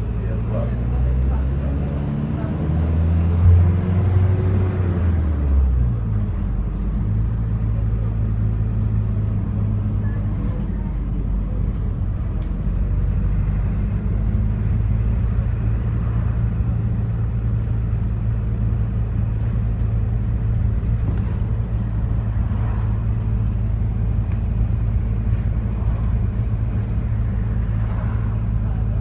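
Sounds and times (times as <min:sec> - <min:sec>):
bus diesel engine hum: 0:00.0 - 0:29.0
road rumble: 0:00.0 - 0:29.0.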